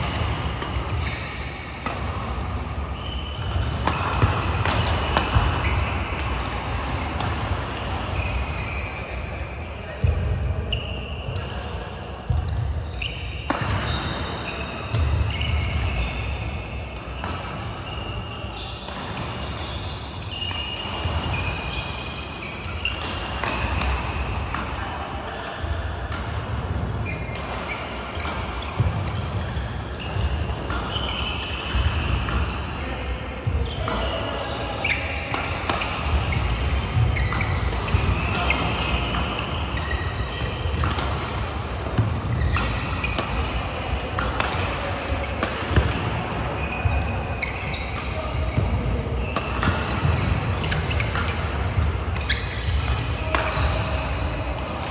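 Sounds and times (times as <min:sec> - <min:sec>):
rackets hitting shuttlecock: 0:00.0 - 0:08.7, 0:11.2 - 0:18.0, 0:18.8 - 0:19.7, 0:22.6 - 0:32.8, 0:33.8 - 0:54.9
shoes squeaking on court: 0:00.7 - 0:06.8, 0:12.5 - 0:23.9, 0:27.0 - 0:54.9.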